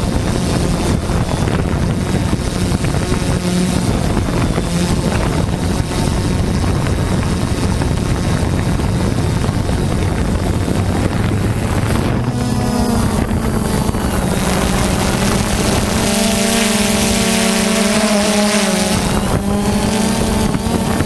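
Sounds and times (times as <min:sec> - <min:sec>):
drone motors and propellers: 0:00.0 - 0:21.0
wind noise on microphone: 0:00.0 - 0:21.0.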